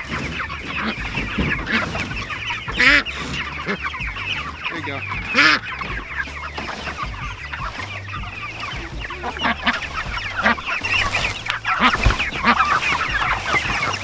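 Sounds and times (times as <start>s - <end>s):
chickens clucking and peeping: 0.0s - 14.0s.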